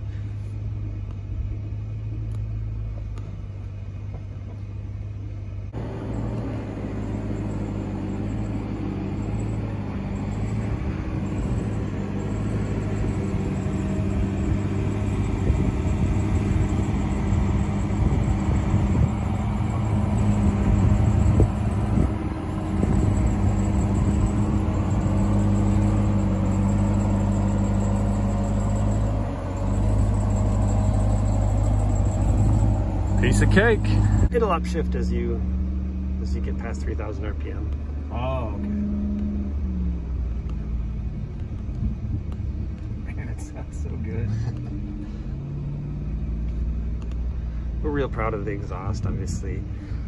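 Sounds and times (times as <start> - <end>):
truck engine at low speed: 0.0 - 50.0.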